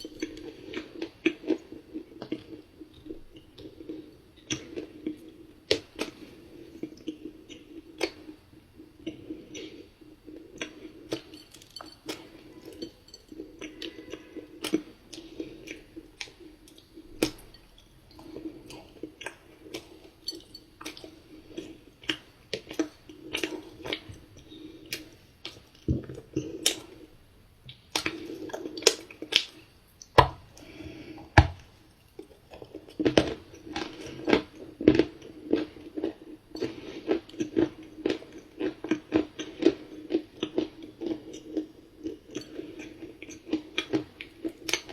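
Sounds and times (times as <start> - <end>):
chewing crunchy cookie: 0.0 - 27.1, 31.6 - 44.9.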